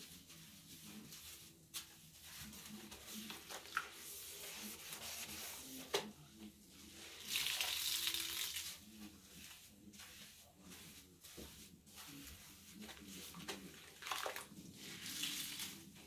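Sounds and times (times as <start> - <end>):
sponge scrubbing wet sink: 0.0 - 16.0.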